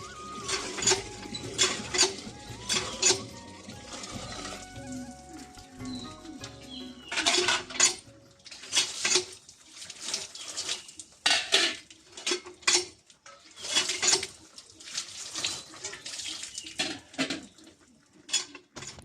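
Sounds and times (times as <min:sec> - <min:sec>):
metal pots and utensils clattering: 0:00.1 - 0:04.6, 0:07.0 - 0:19.0.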